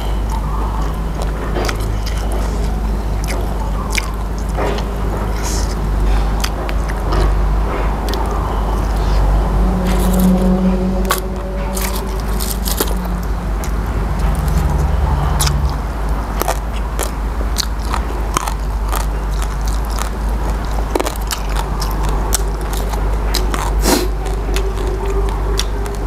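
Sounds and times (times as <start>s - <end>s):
crunching raw vegetables: 0.0s - 26.0s
steady low hum: 0.0s - 26.0s.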